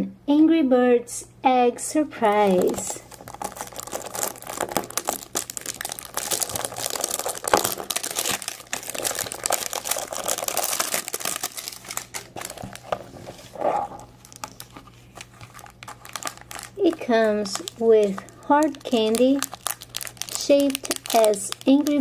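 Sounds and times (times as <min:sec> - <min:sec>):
plastic crinkling: 0:02.2 - 0:22.0.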